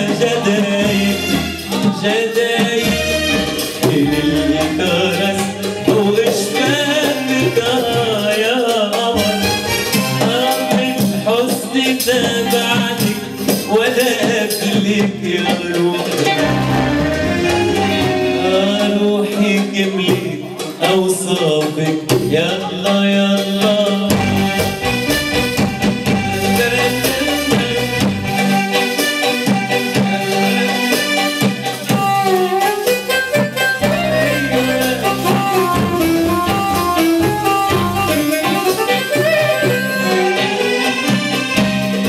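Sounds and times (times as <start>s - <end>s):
keyboard melody: 0.0s - 20.4s, 23.7s - 42.0s
hand drum percussion: 0.0s - 42.0s.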